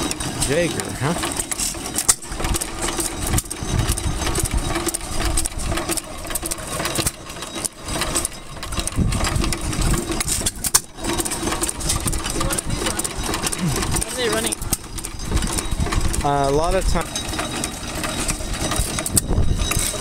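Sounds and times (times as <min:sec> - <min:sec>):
stationary gas engines running: 0:00.0 - 0:20.0.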